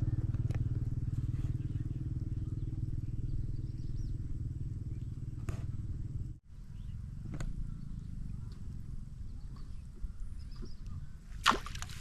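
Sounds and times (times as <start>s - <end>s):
pulsing motor rumble: 0.0s - 12.0s.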